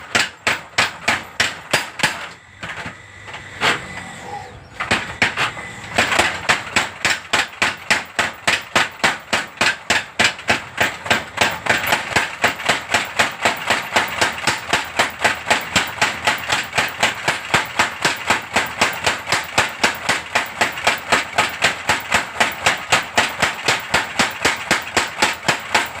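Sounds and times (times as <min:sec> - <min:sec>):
power hammer striking: 0:00.0 - 0:26.0.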